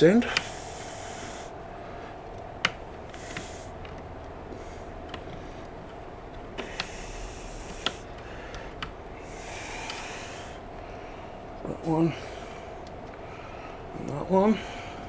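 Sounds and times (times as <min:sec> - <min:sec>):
connectors clicking off switch: 0:00.0 - 0:15.0
faint hum: 0:00.0 - 0:15.0.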